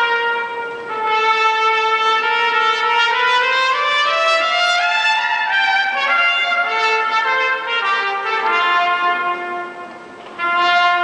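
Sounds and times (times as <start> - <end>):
trumpets playing long notes: 0.0 - 11.0.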